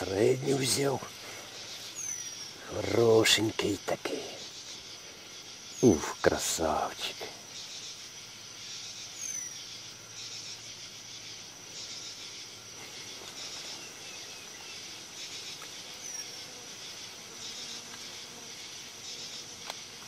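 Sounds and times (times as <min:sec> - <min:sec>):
insects chirping in chorus: 0:00.0 - 0:20.0.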